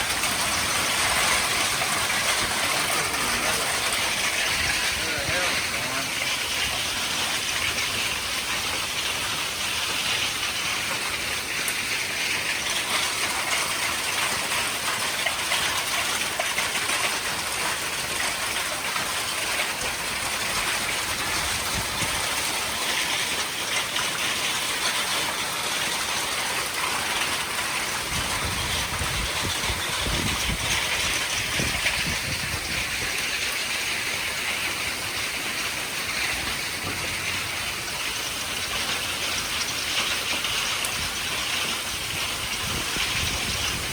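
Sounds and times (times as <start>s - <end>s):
hail and rain pounding: 0.0s - 43.9s.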